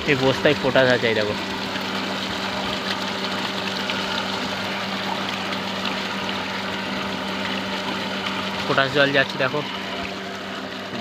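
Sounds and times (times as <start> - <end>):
water gushing and splashing: 0.0 - 11.0
water pump humming: 0.0 - 11.0.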